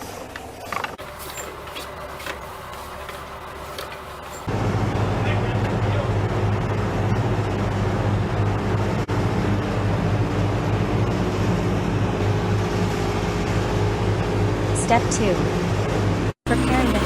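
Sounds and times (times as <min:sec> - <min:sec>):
machinery droning with low hum: 0:00.0 - 0:17.0.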